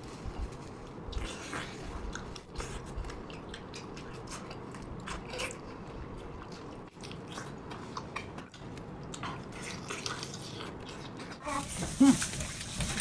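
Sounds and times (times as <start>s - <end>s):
wet chewing and lip-smacking: 0.9s - 11.4s.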